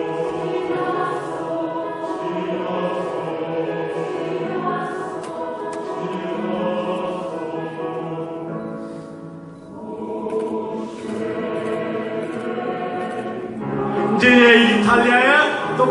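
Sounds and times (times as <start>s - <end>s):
choir singing in harmony: 0.0s - 15.9s.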